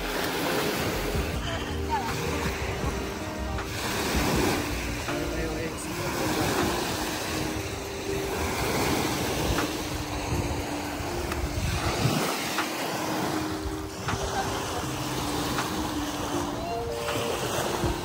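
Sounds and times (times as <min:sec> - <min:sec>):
small waves washing on shore: 0:00.0 - 0:18.0
wind rumbling on microphone: 0:00.0 - 0:18.0.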